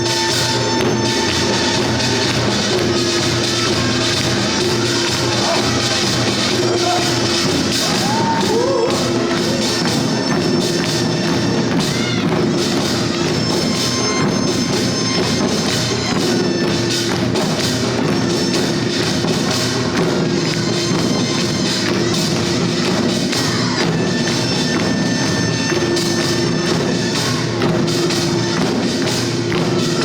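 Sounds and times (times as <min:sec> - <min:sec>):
barrel drums beaten: 0:00.0 - 0:30.0.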